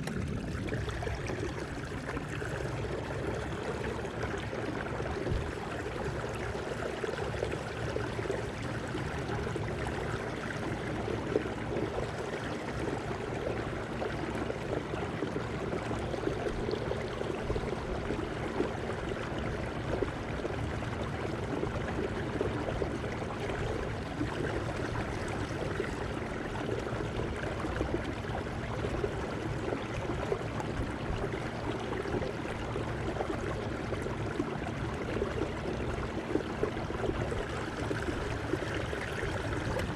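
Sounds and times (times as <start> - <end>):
water gurgling along kayak hull: 0.0 - 39.9.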